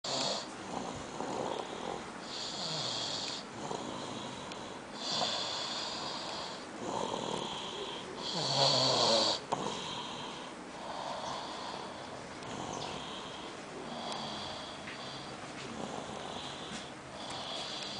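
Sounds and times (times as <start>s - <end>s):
child snoring: 0.1s - 17.9s.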